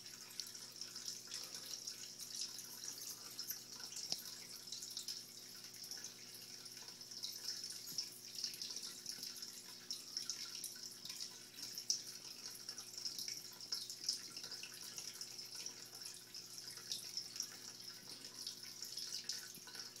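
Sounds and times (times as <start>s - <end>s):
water trickling into tank: 0.0s - 20.0s.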